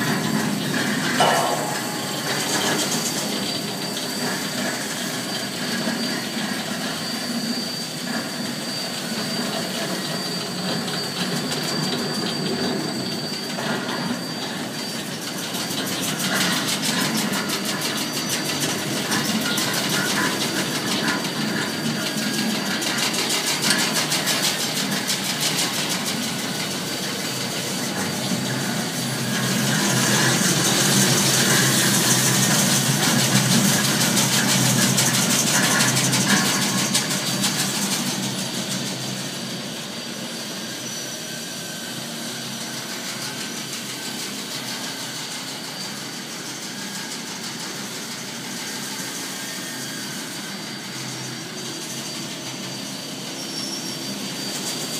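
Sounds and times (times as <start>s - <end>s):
conveyor belt mechanical clatter: 0.0s - 54.9s.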